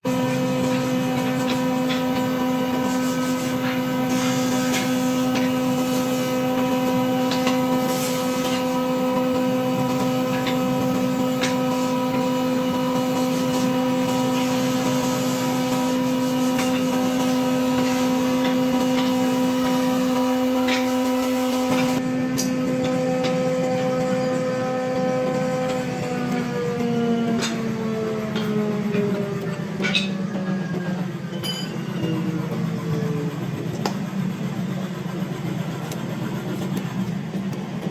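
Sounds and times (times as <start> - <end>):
power tool motor running: 0.1 - 33.9.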